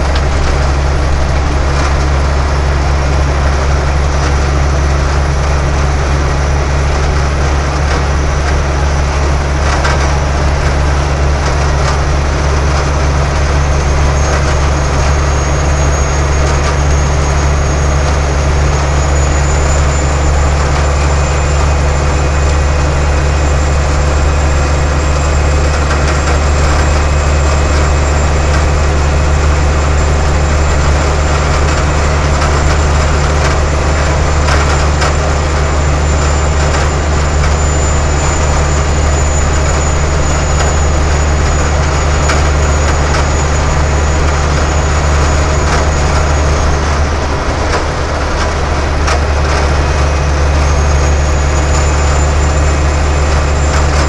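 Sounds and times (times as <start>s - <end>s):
road noise: 0.0s - 54.0s
truck engine droning: 0.0s - 54.0s.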